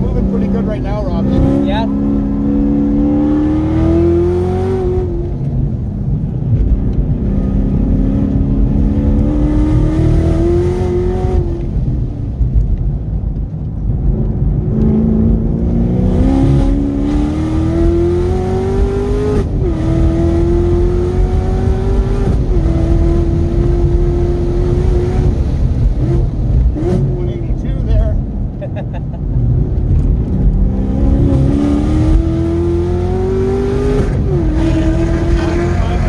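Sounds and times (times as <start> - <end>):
car engine revving: 0.0 - 12.3, 13.9 - 28.6, 29.2 - 36.0.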